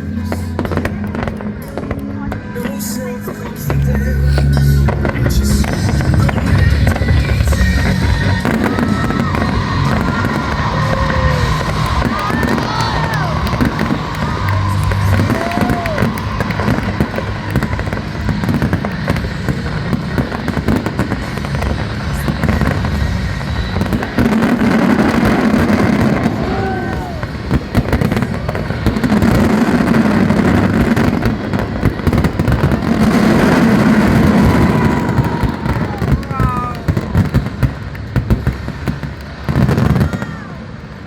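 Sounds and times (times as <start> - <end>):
voices: 0.0 - 37.4
music: 0.0 - 40.1
fireworks bangs and crackles: 0.0 - 41.0.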